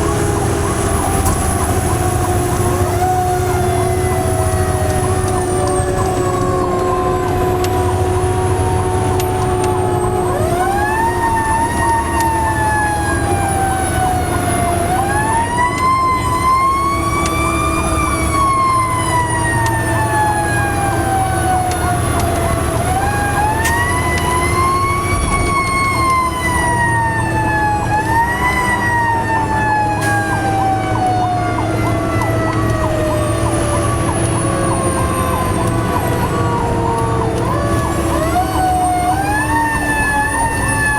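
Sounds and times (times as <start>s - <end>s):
fire truck siren wailing: 0.0s - 40.9s
truck engine rumble: 0.0s - 40.9s
wavering siren tone: 0.0s - 40.9s.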